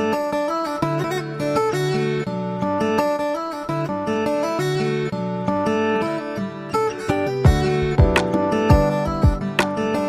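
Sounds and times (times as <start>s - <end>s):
plucked string instrument melody: 0.0s - 10.0s.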